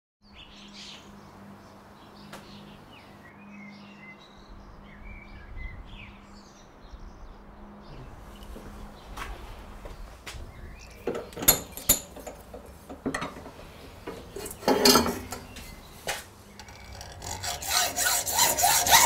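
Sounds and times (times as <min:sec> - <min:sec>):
small birds chirping: 0:00.2 - 0:12.9, 0:13.5 - 0:17.6.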